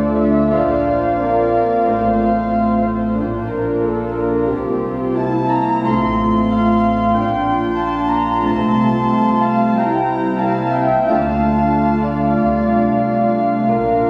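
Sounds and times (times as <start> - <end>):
organ playing slow chords: 0.0 - 14.0.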